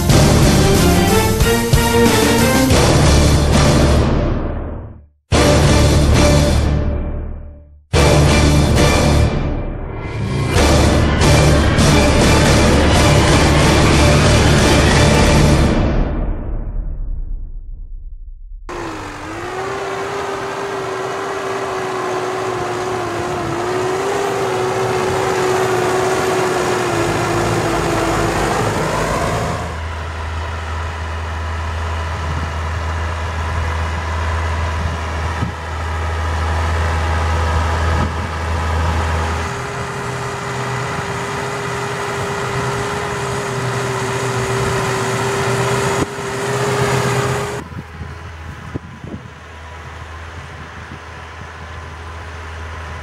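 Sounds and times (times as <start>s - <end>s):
tractor engine whining: 0.0s - 15.9s, 18.7s - 53.0s
deep heavy engine drone: 0.0s - 53.0s.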